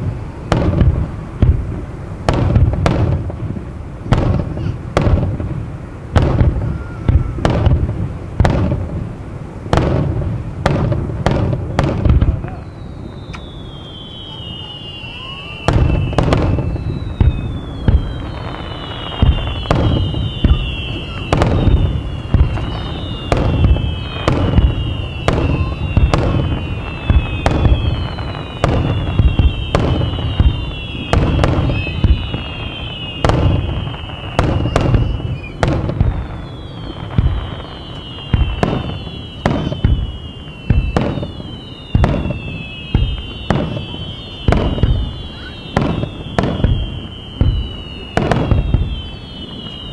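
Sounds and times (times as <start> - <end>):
falling firework whistles: 0.0 - 9.0, 9.7 - 49.9.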